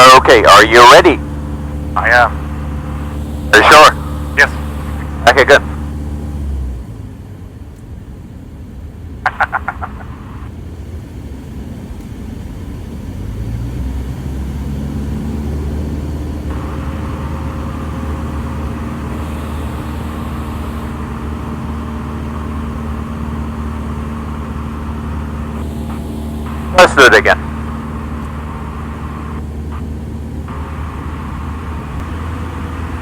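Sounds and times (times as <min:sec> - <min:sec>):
propeller plane engine in cabin: 0:00.0 - 0:33.0.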